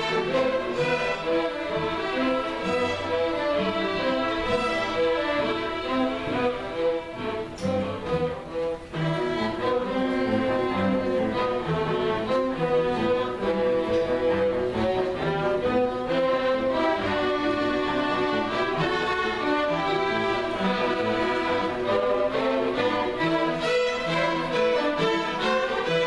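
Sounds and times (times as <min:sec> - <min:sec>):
bowed string ensemble: 0:00.0 - 0:26.0.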